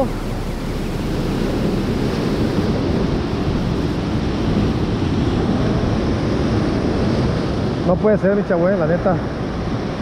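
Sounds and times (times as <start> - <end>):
wind buffeting microphone: 0.0 - 8.5
surf on rocky shore: 0.0 - 10.0.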